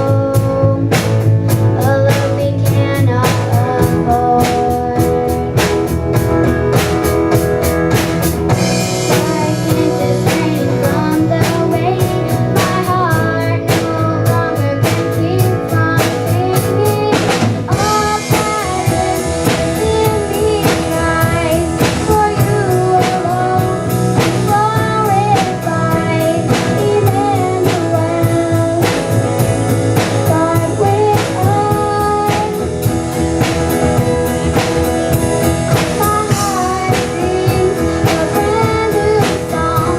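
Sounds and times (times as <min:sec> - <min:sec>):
person singing: 0:00.0 - 0:06.9, 0:08.5 - 0:39.9
band playing a song: 0:00.0 - 0:39.9.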